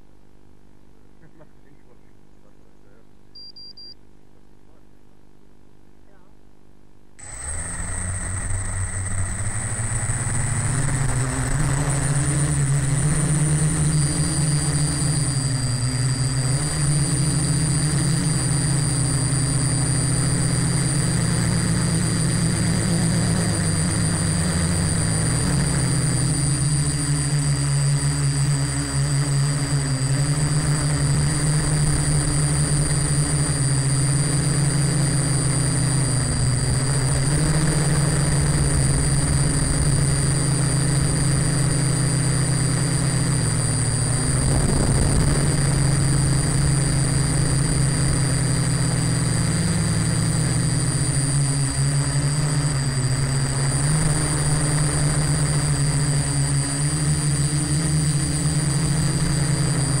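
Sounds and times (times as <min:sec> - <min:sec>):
high-pitched whine: 0:07.2 - 1:00.0
quadcopter propellers buzzing: 0:07.2 - 1:00.0.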